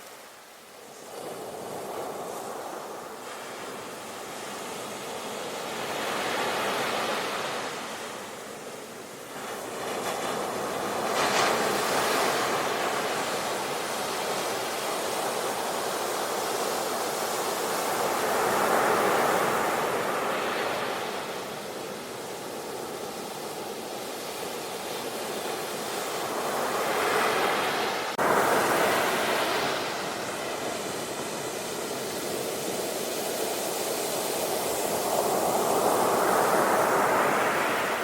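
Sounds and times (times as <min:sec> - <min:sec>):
sea waves breaking on shore: 0:00.0 - 0:38.0.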